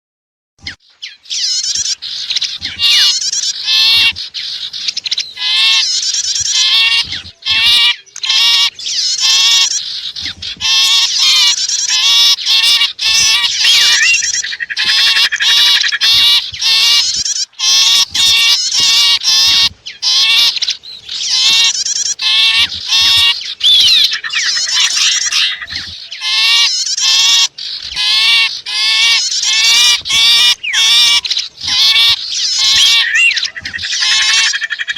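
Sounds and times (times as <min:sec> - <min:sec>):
bird chirps and trills: 0:00.6 - 0:34.9.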